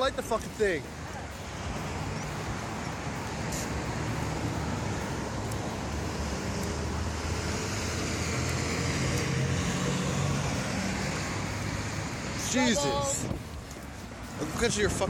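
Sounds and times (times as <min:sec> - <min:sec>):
road traffic passing cars: 0:00.0 - 0:15.0.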